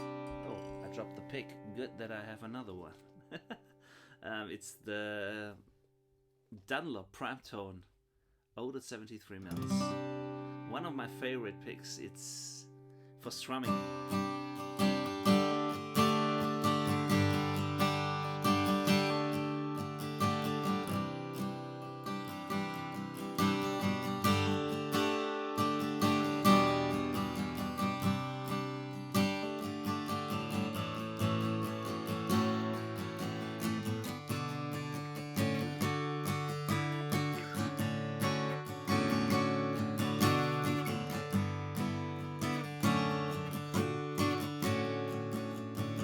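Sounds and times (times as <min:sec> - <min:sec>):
acoustic guitar strummed chords: 0:00.0 - 0:03.8, 0:09.5 - 0:46.0.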